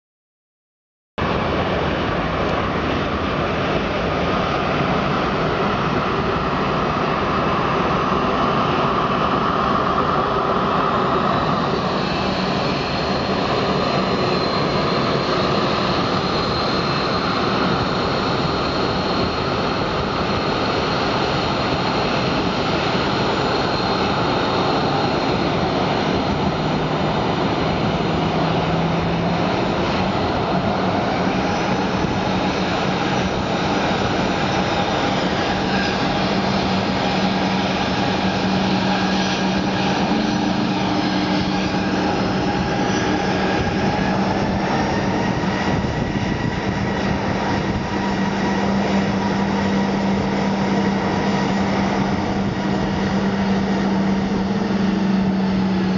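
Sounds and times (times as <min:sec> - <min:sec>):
high engine whine: 0:01.2 - 0:55.9
jet engines running: 0:01.2 - 0:55.9.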